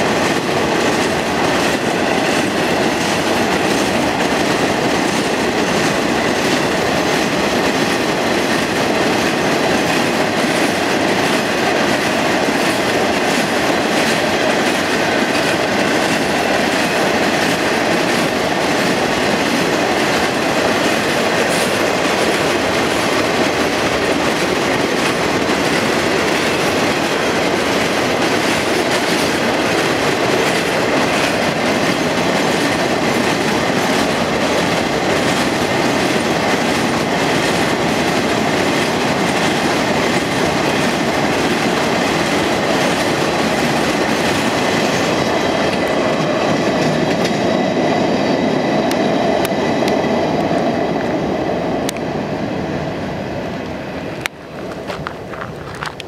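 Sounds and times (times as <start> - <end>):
freight train rolling rumble: 0.0 - 56.0.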